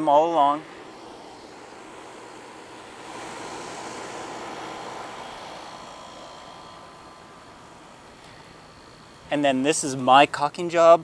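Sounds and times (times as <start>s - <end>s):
steady outdoor hum: 0.0s - 11.0s.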